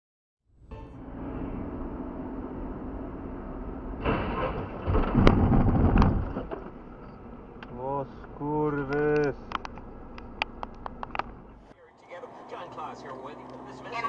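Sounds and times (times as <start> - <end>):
car driving rumble: 0.6 - 14.0.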